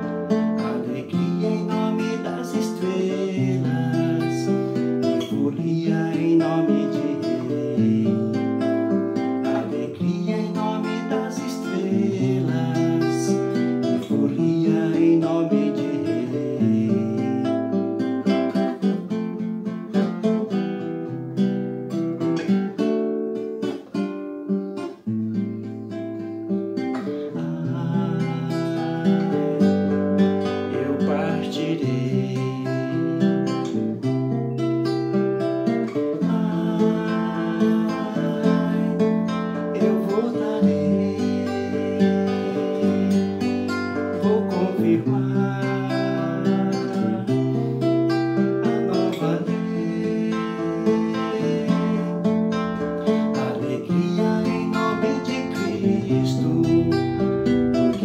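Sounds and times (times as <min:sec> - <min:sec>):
classical guitar fingerpicking: 0:00.0 - 0:58.0.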